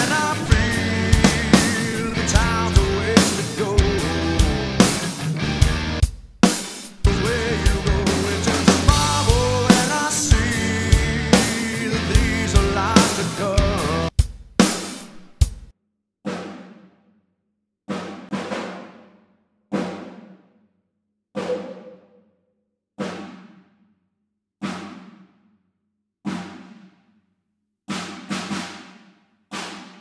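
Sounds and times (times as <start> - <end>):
drum hits ringing out: 0.0 - 15.7, 16.3 - 17.0, 17.9 - 20.5, 21.4 - 22.1, 23.0 - 23.7, 24.6 - 25.4, 26.3 - 27.0, 27.9 - 30.0.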